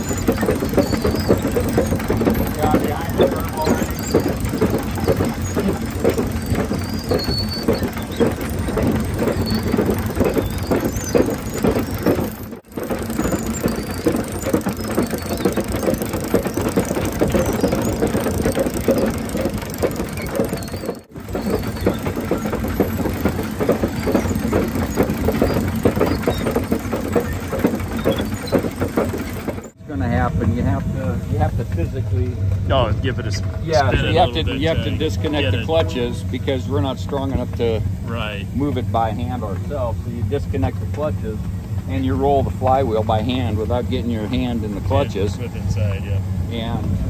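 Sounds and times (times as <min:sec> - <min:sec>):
steam engine mechanical clatter: 0:00.0 - 0:47.0.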